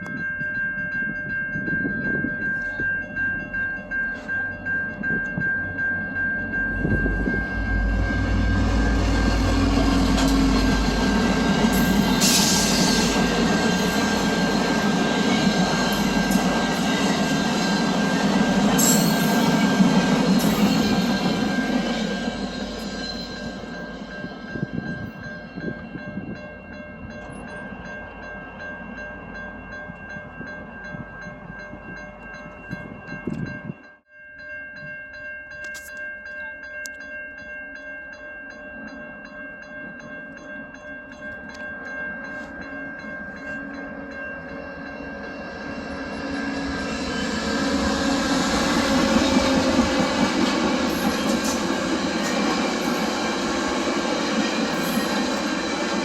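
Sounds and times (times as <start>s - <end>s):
train passing: 1.5s - 33.6s, 39.8s - 56.0s.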